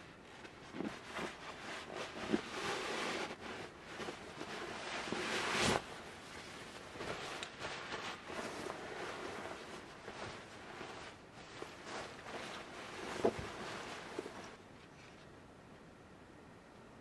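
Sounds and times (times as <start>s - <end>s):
sleeping bag nylon rustling: 0.0s - 14.6s.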